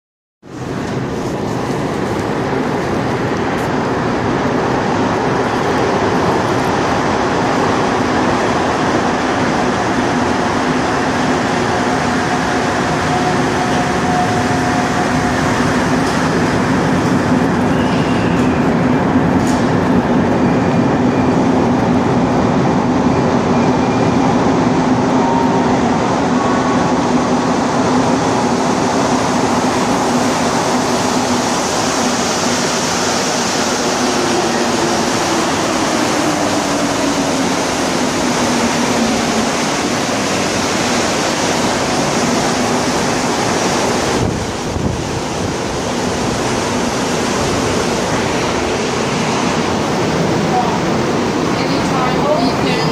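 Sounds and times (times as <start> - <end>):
metro train rumble and whir: 0.4 - 52.9
train arriving: 0.4 - 52.9.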